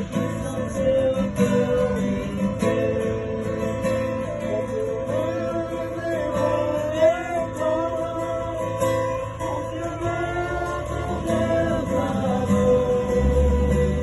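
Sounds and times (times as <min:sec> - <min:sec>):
guitar accompaniment: 0:00.0 - 0:14.0
person singing: 0:00.0 - 0:14.0.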